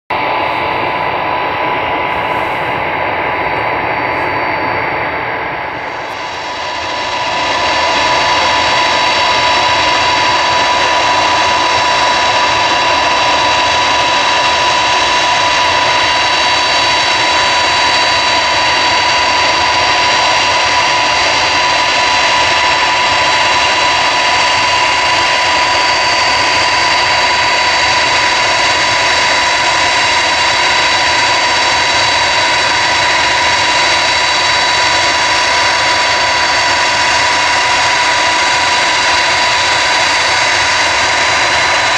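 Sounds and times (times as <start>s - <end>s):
jet engines whining at taxi power: 0.1s - 41.9s.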